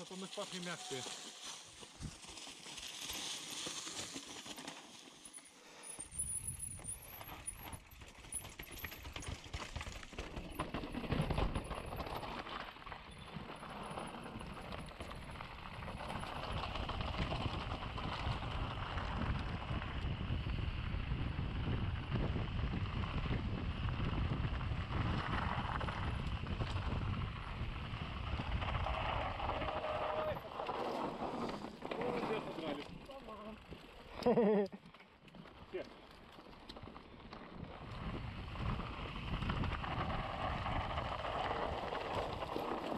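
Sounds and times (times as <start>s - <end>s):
bike tyres rattling over rock: 0.0s - 42.9s.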